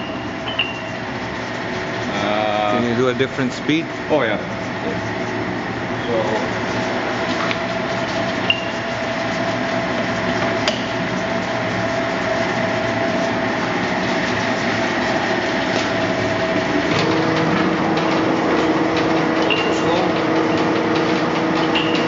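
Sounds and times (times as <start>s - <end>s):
lathe machine hum: 0.0s - 22.0s.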